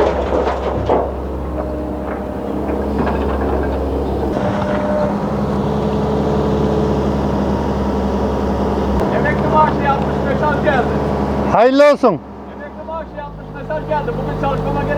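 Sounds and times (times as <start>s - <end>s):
diesel engine running: 0.0s - 14.9s
faint whining tones: 0.0s - 14.9s.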